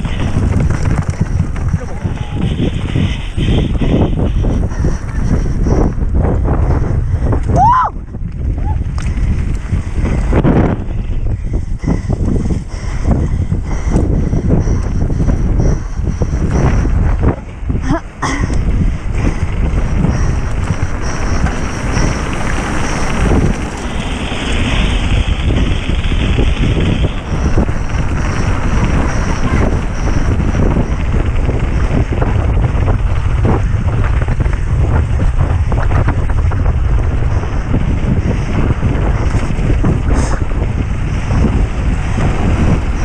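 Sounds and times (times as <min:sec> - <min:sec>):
mountain bike rattling on trail: 0:00.0 - 0:43.0
wind buffeting microphone: 0:00.0 - 0:43.0.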